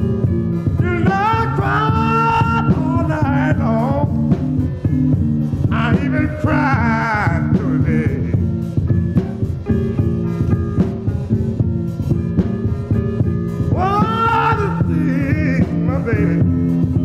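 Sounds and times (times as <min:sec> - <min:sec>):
electric blues record: 0:00.0 - 0:17.0.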